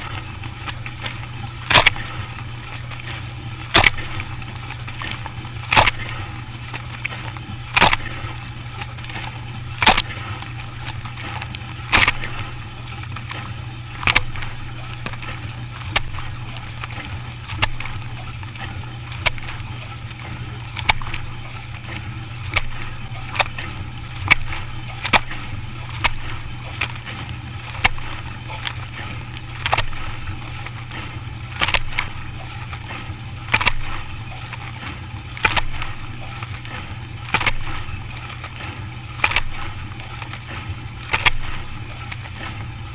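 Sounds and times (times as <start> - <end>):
machine humming: 0.0 - 42.9.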